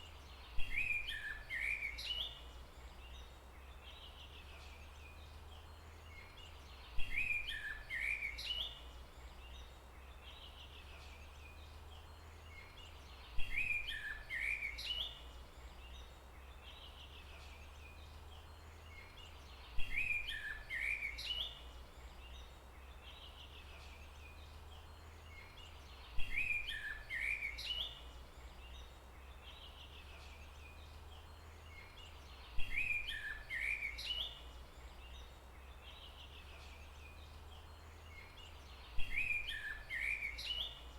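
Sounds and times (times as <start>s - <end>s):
bird chirping: 0.0s - 40.9s
low rumble of background noise: 0.0s - 40.9s.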